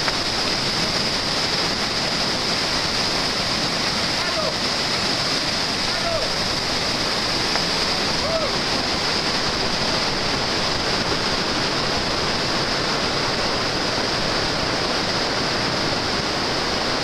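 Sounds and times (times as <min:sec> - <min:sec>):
whitewater rapid roaring: 0:00.0 - 0:17.0.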